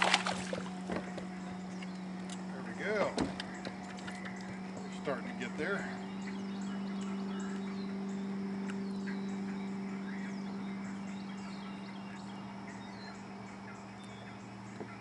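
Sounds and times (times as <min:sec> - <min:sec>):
birds chirping: 0:00.0 - 0:15.0
constant low hum: 0:00.0 - 0:15.0.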